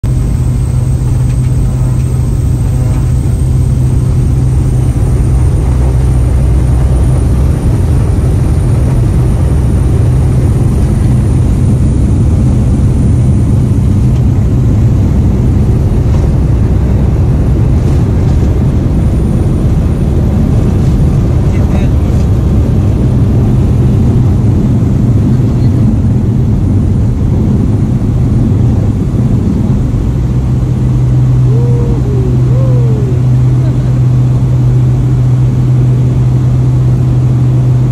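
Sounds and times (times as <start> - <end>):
aircraft engine and propeller droning: 0.0 - 37.9.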